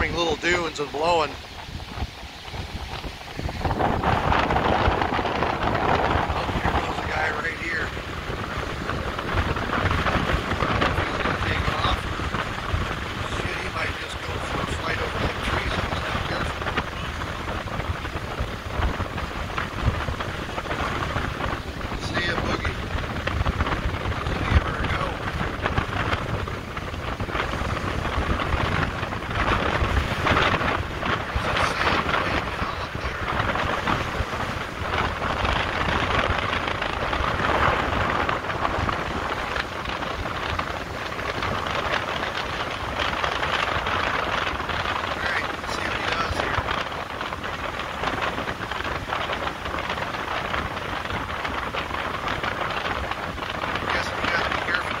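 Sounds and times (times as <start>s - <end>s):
gusty wind buffeting microphone: 0.0s - 55.0s
waves breaking on shore: 0.0s - 55.0s.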